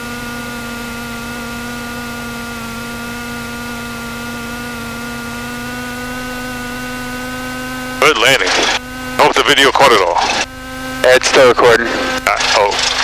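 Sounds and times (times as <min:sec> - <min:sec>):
airplane engine humming in cabin: 0:00.0 - 0:13.0.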